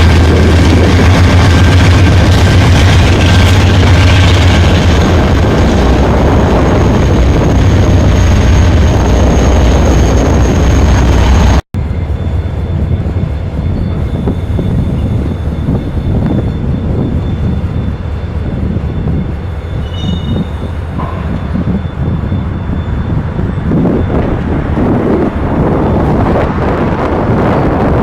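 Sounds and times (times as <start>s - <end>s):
diesel locomotive engine droning: 0.0s - 28.0s
passing train rumble: 0.0s - 28.0s.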